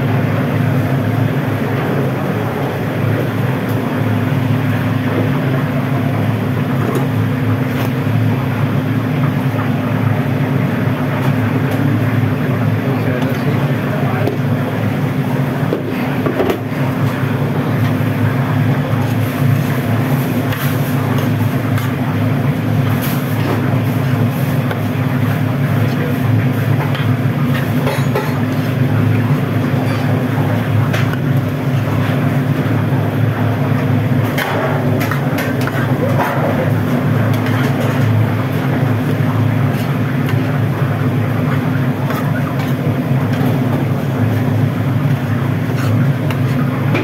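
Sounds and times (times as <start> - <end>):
kitchen machinery drone: 0.0 - 47.0.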